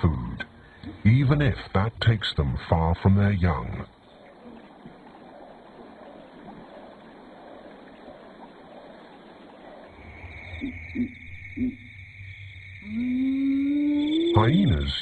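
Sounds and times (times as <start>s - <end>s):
low steady hum: 0.0s - 15.0s
outdoor wildlife ambience hiss: 0.0s - 15.0s.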